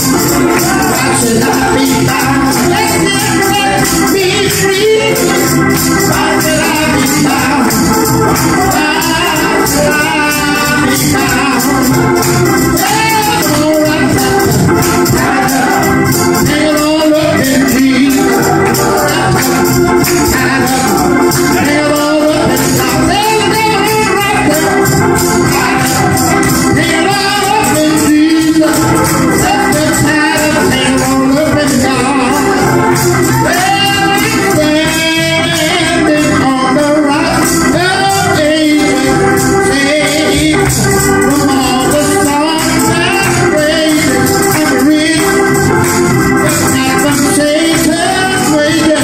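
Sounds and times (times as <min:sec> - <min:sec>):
hand percussion: 0:00.0 - 0:49.0
man singing gospel: 0:00.0 - 0:49.0
organ: 0:00.0 - 0:49.0.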